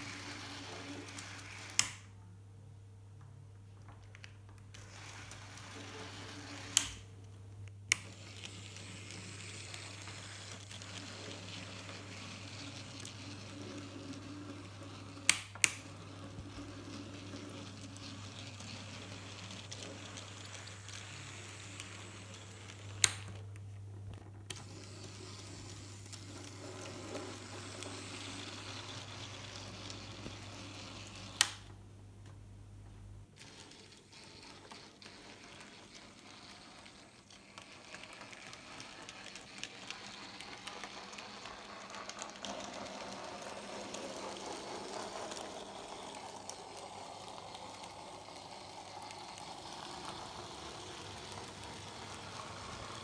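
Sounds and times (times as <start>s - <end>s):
model train motor whirring: 0.0s - 2.1s, 4.7s - 7.0s, 7.9s - 23.4s, 24.5s - 31.7s, 33.4s - 53.0s.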